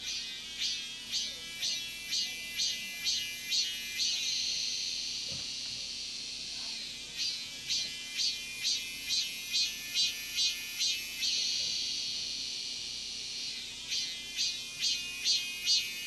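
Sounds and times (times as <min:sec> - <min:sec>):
cicada singing: 0:00.0 - 0:16.0.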